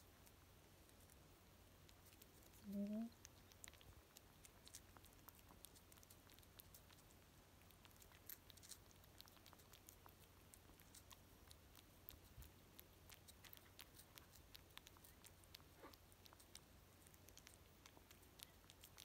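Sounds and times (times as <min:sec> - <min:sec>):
kitten lapping wet clicks: 0:01.8 - 0:19.0.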